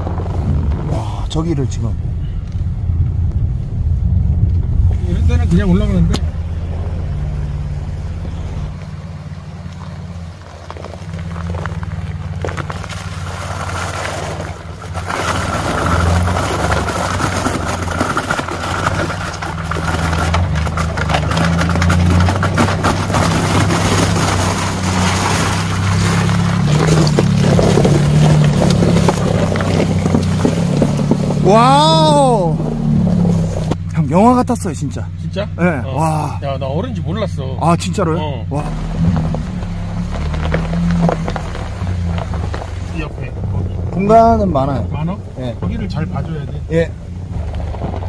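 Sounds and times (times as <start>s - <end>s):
pickup engine running: 0.0s - 48.0s
water churned by tyres: 0.0s - 48.0s.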